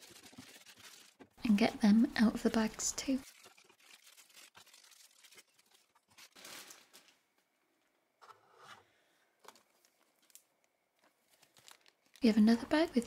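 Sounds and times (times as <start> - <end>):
plastic bags rustling: 0.0 - 1.6, 2.2 - 7.6, 9.4 - 13.0.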